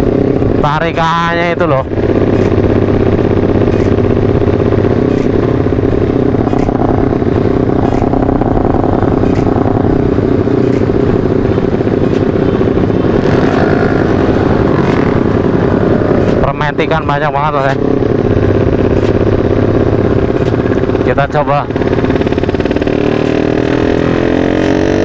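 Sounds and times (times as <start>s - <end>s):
motorcycle engine under throttle: 0.0s - 25.0s.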